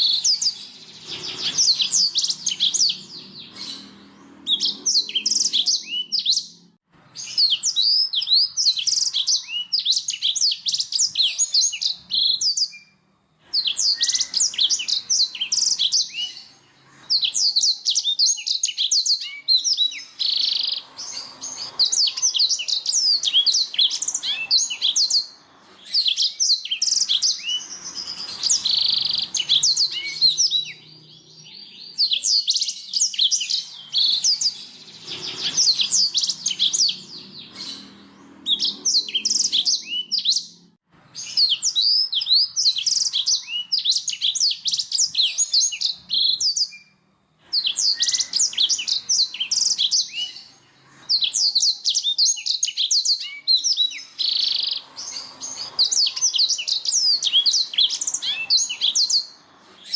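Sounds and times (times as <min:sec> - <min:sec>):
canary singing chirps and trills: 0:00.0 - 0:59.9.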